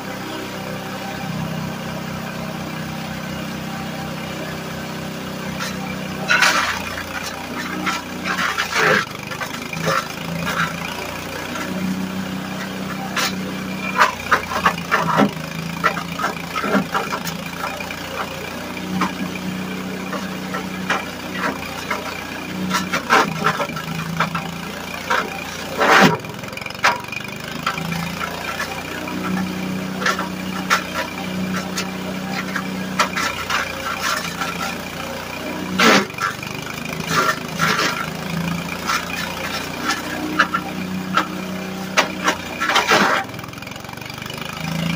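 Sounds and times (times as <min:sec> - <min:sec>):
small engine running steadily: 0:00.0 - 0:44.9
wood chipper cracking branches: 0:01.0 - 0:44.9.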